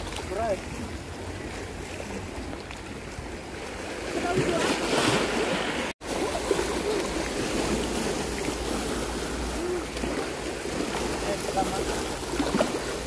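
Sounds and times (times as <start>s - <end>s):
seawater sloshing and splashing: 0.0s - 13.0s.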